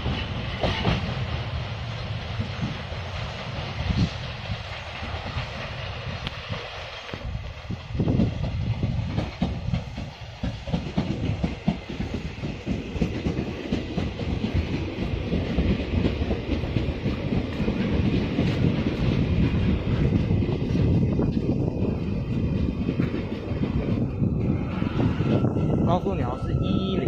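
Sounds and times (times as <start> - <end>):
train wheels clacking over rail joints: 0.0 - 1.4, 2.4 - 24.0
train cars rumbling: 0.0 - 27.0.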